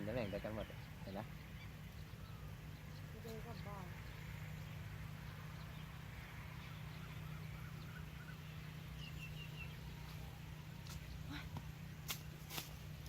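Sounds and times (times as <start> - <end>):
faint bird chirps: 0.0 - 6.0, 6.6 - 11.6.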